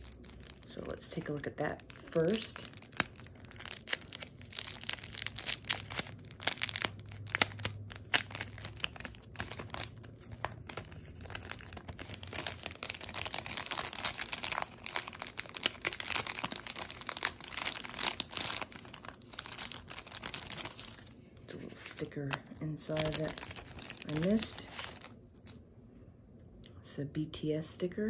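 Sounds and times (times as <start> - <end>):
packaging crinkling: 0.0 - 21.2, 21.8 - 25.6.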